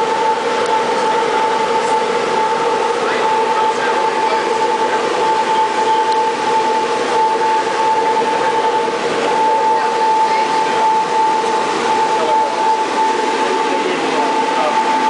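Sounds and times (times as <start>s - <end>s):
morse code tone: 0.0s - 15.0s.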